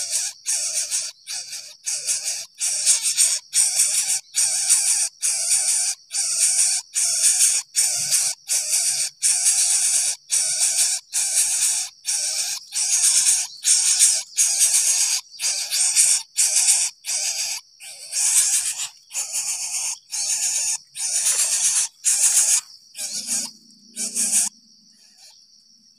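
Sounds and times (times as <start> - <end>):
bird nestling hissing: 0.0 - 24.5
high insect trill: 0.0 - 25.9.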